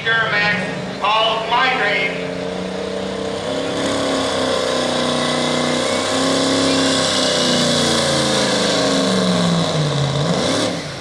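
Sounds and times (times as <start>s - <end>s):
diesel truck engine at high revs: 0.0s - 11.0s.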